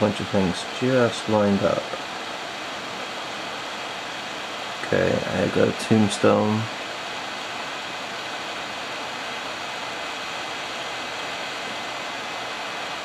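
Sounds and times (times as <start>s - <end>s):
hot air blower hissing: 0.0s - 13.0s.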